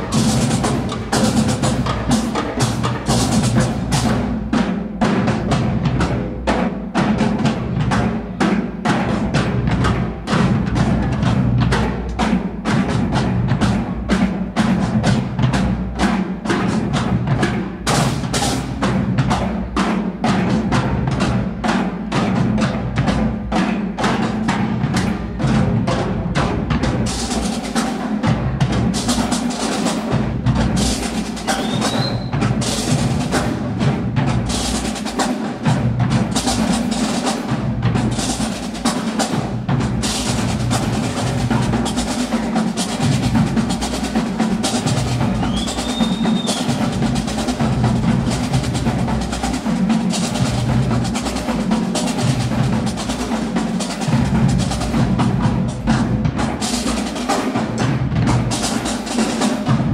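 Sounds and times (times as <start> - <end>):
snare drums rapid strokes: 0.0 - 59.9.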